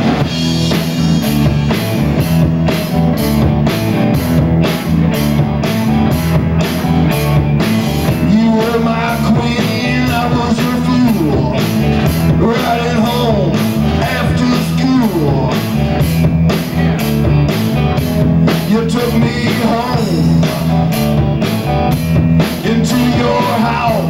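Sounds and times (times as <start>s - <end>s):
drums with cymbal beat: 0.0s - 24.0s
electric guitars: 0.0s - 24.0s.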